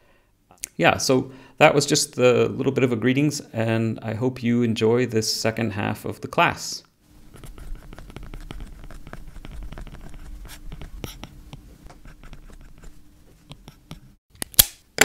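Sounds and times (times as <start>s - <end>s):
faint steady hum: 0.0s - 14.2s.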